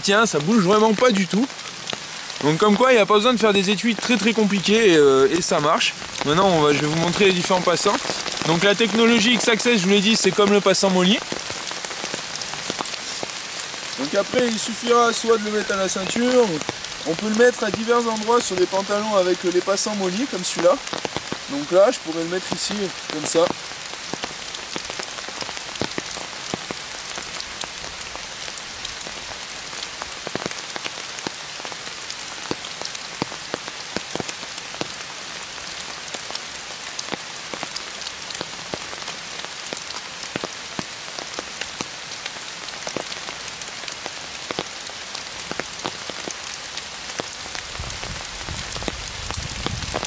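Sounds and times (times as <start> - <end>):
sharp ticks of raindrops: 0.0 - 50.0
steady rain hiss: 0.0 - 50.0.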